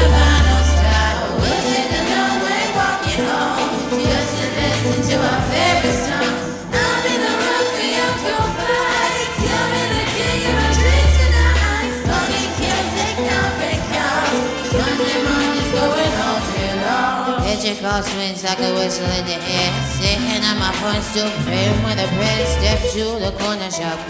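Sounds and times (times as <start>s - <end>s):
steady bass line: 0.0s - 17.6s, 19.2s - 23.3s
pop song with singing: 0.0s - 24.0s.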